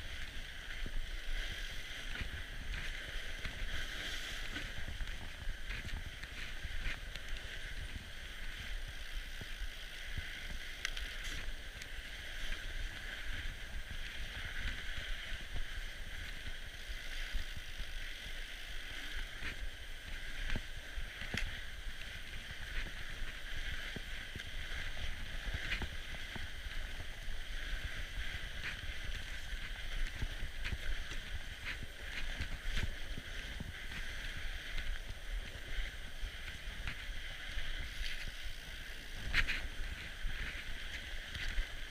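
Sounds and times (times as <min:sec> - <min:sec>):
bike tyres rumbling on snow: 0:00.0 - 0:41.9.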